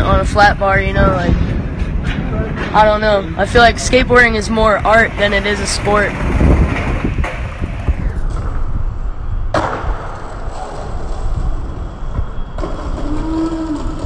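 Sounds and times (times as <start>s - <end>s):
skateboard wheels rolling on pavement: 0.9s - 14.0s.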